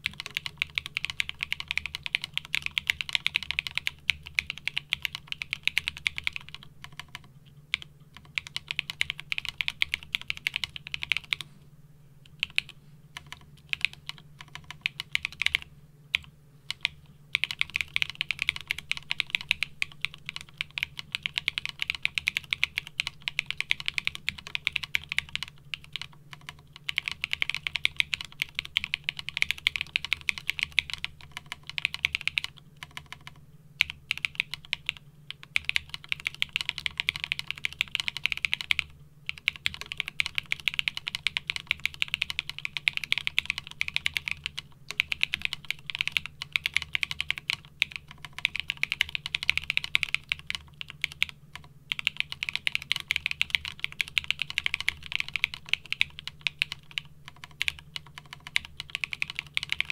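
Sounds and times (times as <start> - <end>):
mechanical keyboard typing: 0.0 - 11.4, 12.3 - 59.9.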